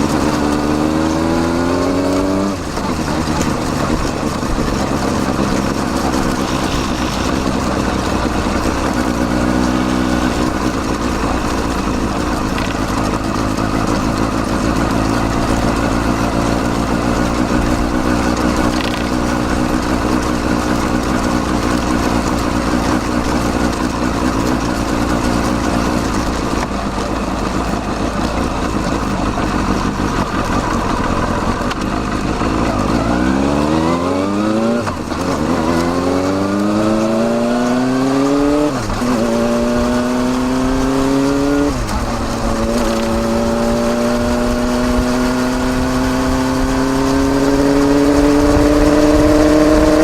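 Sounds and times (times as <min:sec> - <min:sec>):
motorcycle exhaust revving: 0:00.0 - 0:50.0.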